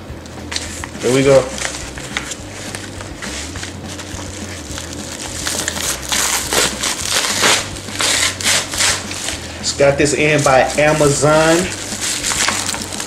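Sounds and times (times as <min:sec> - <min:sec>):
padded mailer tearing and crinkling: 0:01.0 - 0:09.4, 0:10.2 - 0:13.0.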